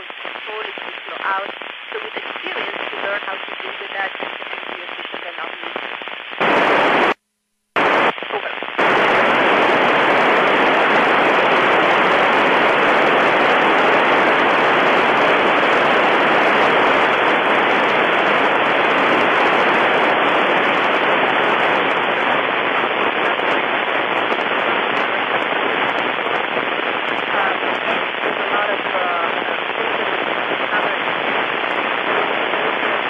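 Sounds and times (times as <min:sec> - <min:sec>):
radio receiver static hiss: 0:00.0 - 0:33.0.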